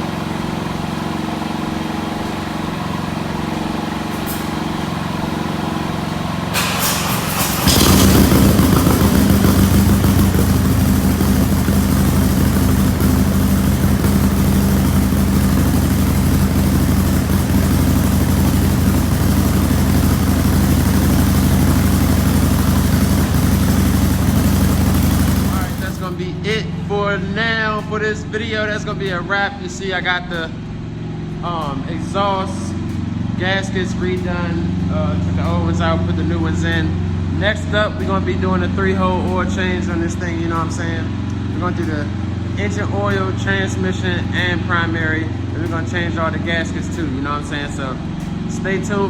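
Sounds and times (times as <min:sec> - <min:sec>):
motorcycle engine idling: 0:00.0 - 0:49.0
steady low hum: 0:00.0 - 0:49.0.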